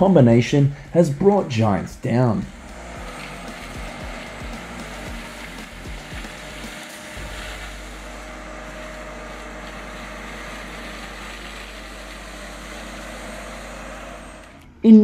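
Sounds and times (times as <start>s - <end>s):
forestry mulcher grinding: 0.0s - 14.7s.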